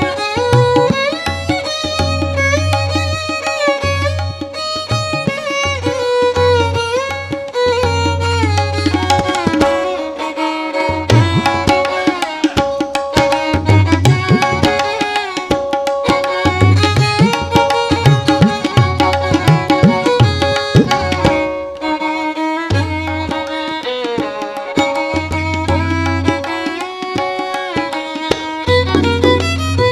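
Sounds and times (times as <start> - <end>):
tabla playing: 0.0 - 29.9.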